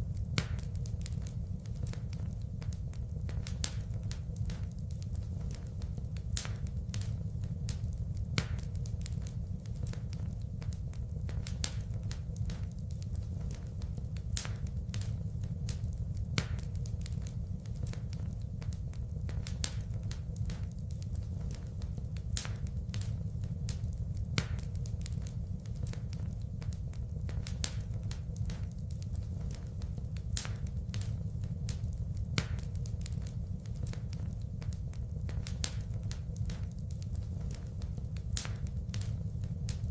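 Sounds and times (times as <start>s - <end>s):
burning wood crackling and popping: 0.0s - 39.9s
fire flames rumbling: 0.0s - 39.9s.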